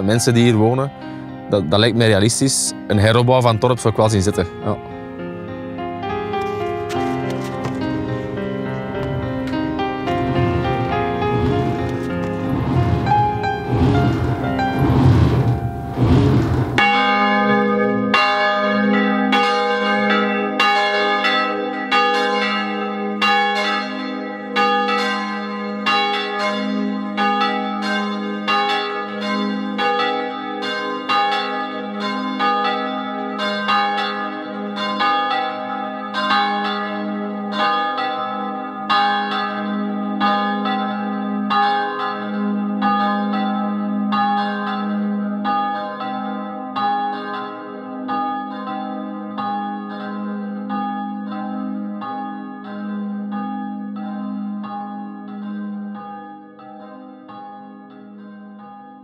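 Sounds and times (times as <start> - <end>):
church bell ringing: 0.0 - 59.0.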